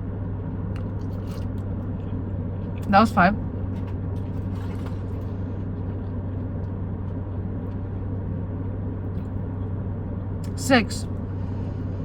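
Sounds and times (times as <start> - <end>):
car interior engine hum: 0.0 - 12.0.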